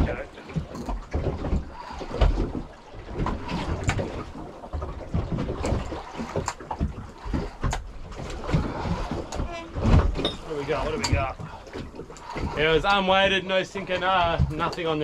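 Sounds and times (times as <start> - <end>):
water against boat hull: 0.0 - 15.0.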